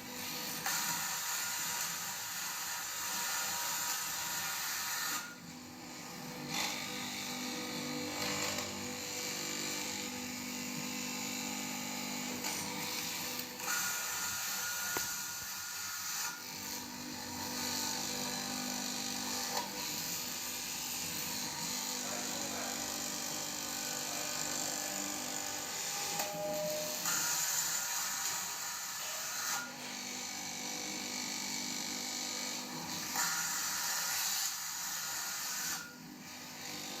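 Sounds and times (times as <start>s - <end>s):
fabric cutting machine running: 0.0s - 37.0s.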